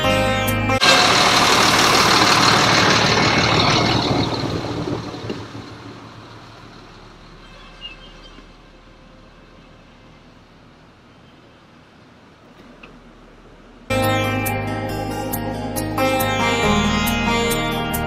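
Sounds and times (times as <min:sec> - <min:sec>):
bus engine idling: 0:00.0 - 0:18.0.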